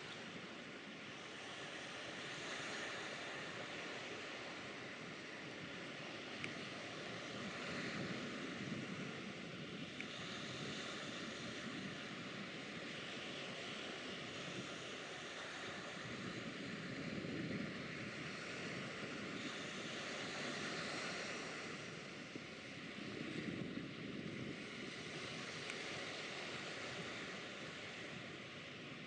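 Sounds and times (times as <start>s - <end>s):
choppy water: 0.0s - 29.0s
wind: 0.0s - 29.0s.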